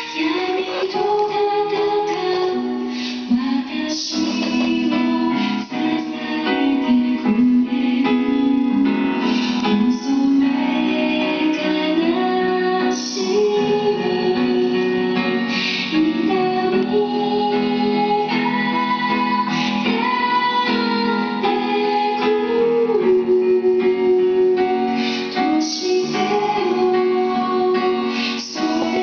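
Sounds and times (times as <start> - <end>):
instrumental accompaniment: 0.0 - 29.0
woman singing slow melody: 0.0 - 29.0.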